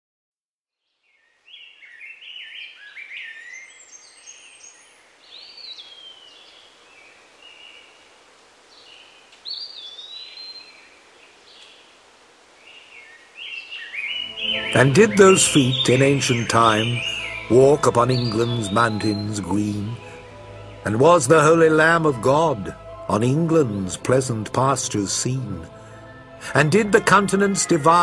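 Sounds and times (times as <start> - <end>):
songbirds singing: 0.8 - 28.0
faint steady hiss: 1.0 - 28.0.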